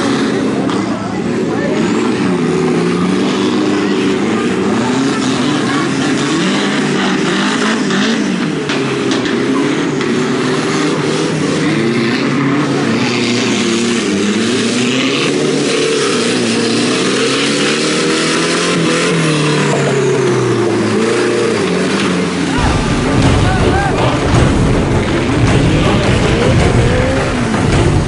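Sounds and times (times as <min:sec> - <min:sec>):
off-road engine revving under load: 0:00.0 - 0:28.0.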